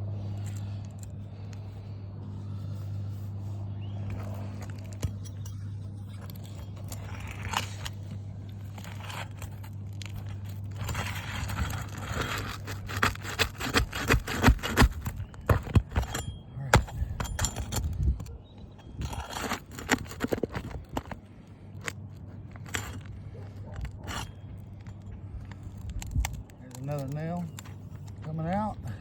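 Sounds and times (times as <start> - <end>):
steady low hum: 0.0 - 29.0
pry bar scraping and knocking: 4.0 - 28.4.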